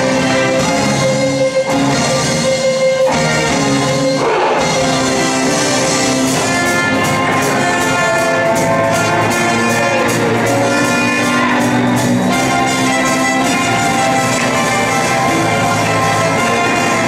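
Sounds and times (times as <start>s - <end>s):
band playing upbeat pop: 0.0s - 17.0s
brass: 0.0s - 17.0s
steady drum beat: 0.0s - 17.0s.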